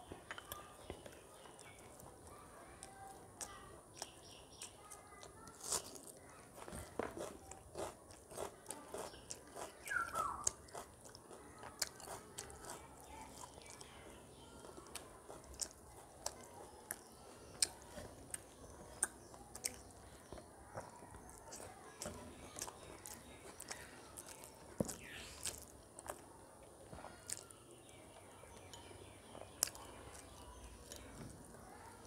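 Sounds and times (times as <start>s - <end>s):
person chewing food: 2.8s - 32.0s.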